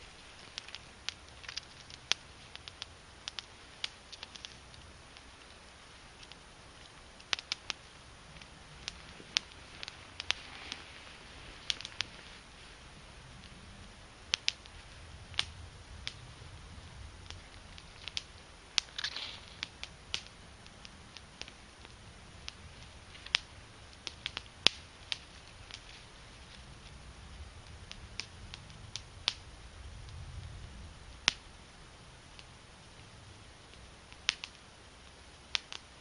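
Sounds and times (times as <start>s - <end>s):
fire crackling and popping: 0.0s - 36.0s
soft hiss: 0.0s - 36.0s.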